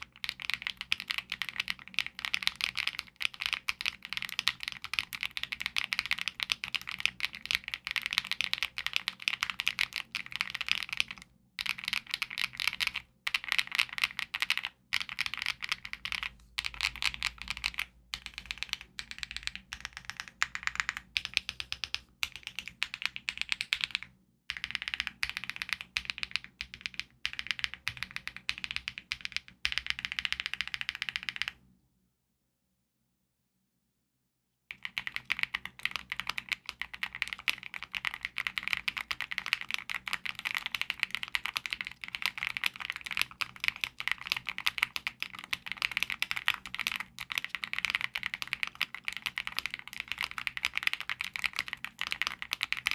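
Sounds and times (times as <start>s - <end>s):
mechanical keyboard typing: 0.0s - 31.6s, 34.7s - 52.9s.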